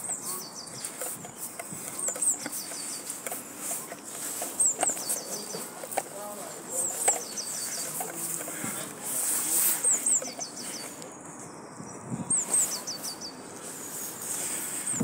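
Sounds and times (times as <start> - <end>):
outdoor background hiss: 0.0 - 15.0
songbird singing: 0.0 - 15.0.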